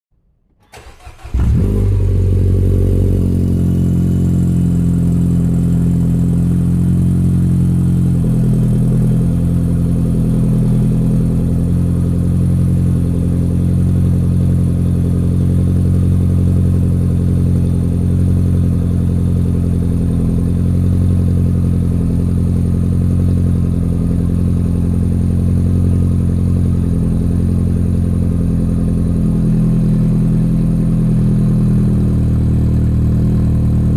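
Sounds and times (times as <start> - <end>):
car engine starting and idling: 0.5 - 33.9.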